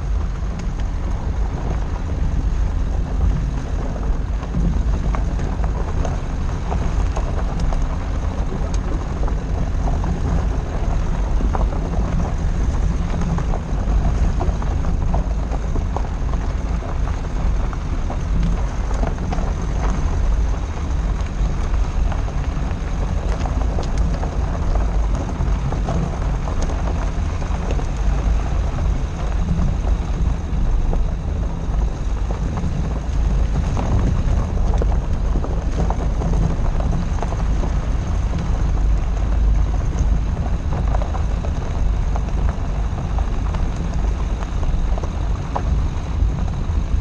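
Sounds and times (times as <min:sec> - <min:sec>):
gravel clicks: 0:00.0 - 0:47.0
tyres rumbling on stones: 0:00.0 - 0:47.0
wind on microphone: 0:00.0 - 0:47.0.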